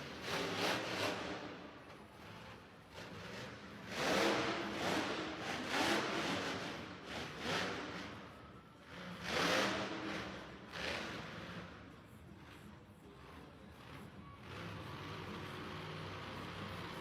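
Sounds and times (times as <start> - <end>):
vehicle engines revving: 0.0 - 17.0.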